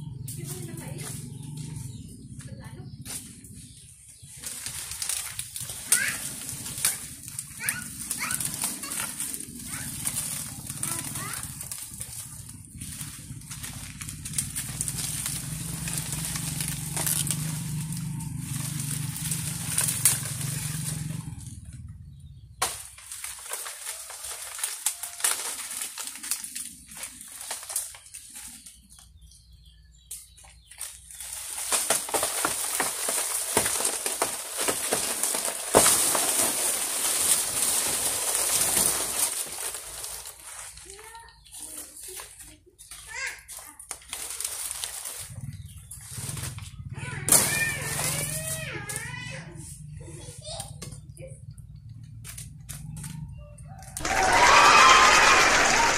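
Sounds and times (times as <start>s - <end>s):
dry leaves rustling and tearing: 0.0s - 55.9s.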